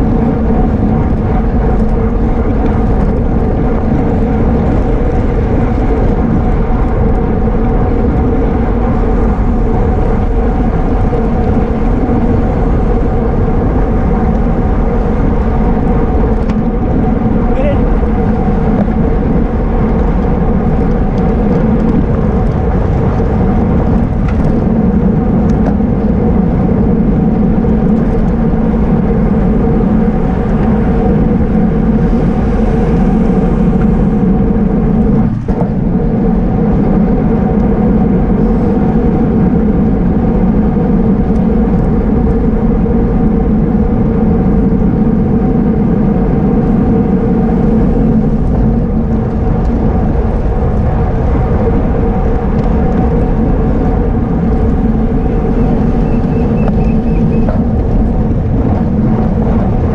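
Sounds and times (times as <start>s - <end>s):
constant hum: 0.0s - 59.9s
road noise: 0.0s - 59.9s
wind rush: 0.0s - 59.9s.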